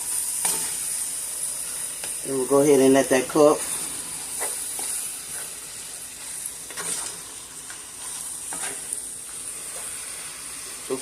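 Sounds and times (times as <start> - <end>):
meat and onions sizzling in a pan: 0.0 - 11.0.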